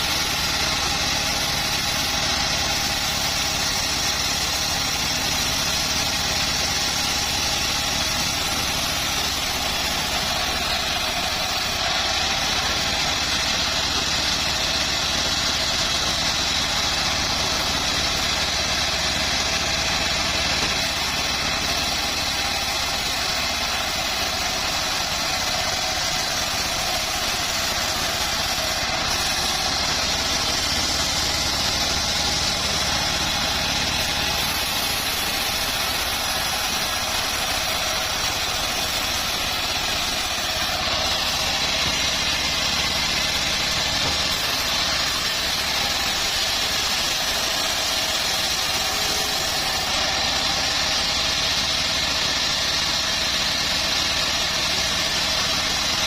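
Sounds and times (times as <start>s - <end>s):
bandsaw mill running: 0.0s - 56.0s.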